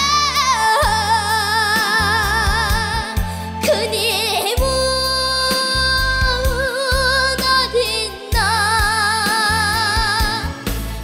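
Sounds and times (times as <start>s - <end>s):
girl singing with vibrato: 0.0s - 10.6s
band accompaniment: 0.0s - 11.0s.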